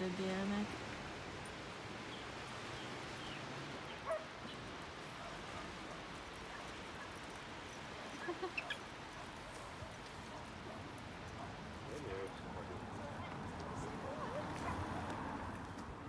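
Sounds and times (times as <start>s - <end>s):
distant surf: 0.0s - 16.0s
wind: 0.0s - 16.0s.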